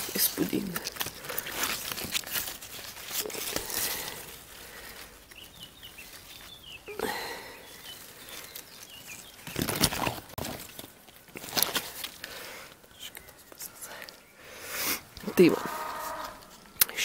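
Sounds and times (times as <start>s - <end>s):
plant leaves rustling: 0.0s - 17.0s.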